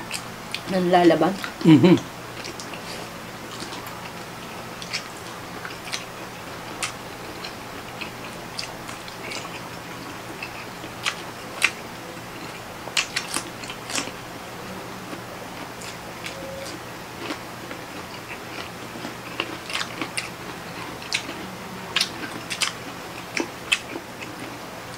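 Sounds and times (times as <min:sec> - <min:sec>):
close-up chewing: 0:02.3 - 0:24.9.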